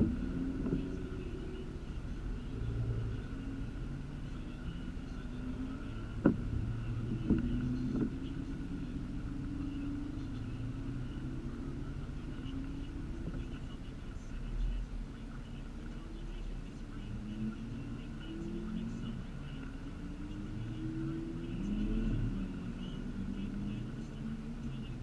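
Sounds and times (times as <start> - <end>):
road rumble: 0.0 - 25.0
vehicle engine running: 0.0 - 25.0.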